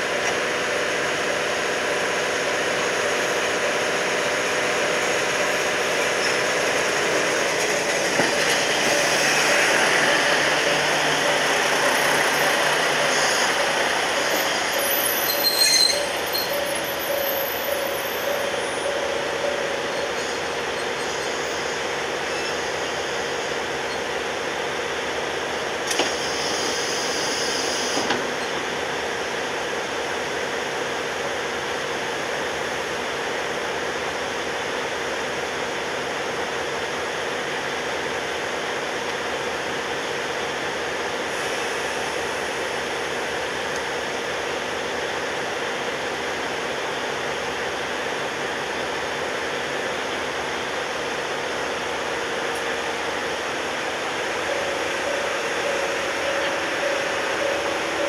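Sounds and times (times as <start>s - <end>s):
diesel locomotive idling: 0.0s - 58.0s.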